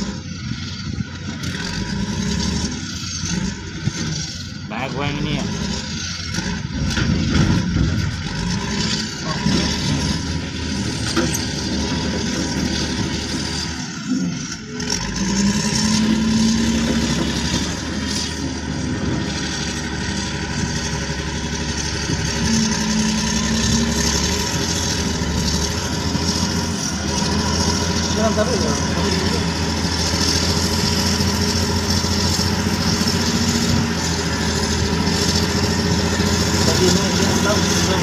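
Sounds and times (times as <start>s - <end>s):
diesel engine under load: 0.0s - 38.0s.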